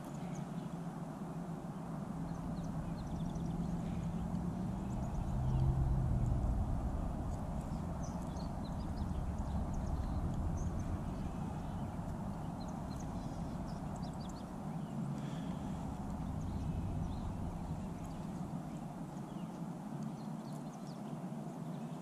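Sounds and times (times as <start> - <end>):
small birds chirping: 0.0 - 22.0
steady low rumble: 0.2 - 19.6.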